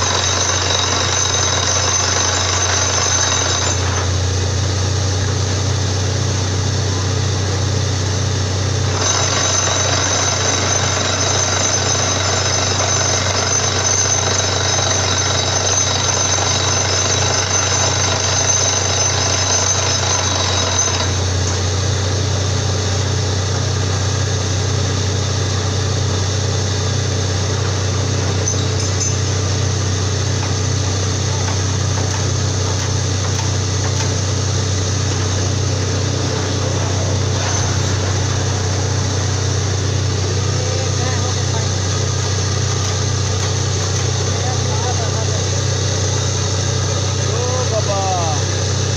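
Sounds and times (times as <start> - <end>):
drill hammering rattle: 0.0 - 4.6, 8.6 - 48.9
drilling rig engine hum: 0.0 - 48.9
harsh high-pitched machine noise: 0.0 - 48.9.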